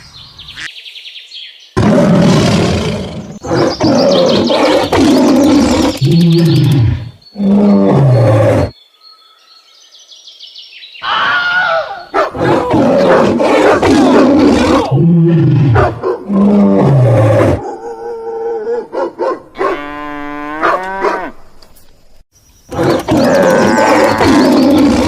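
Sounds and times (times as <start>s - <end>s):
birds chirping: 0.0s - 19.7s, 20.6s - 25.0s.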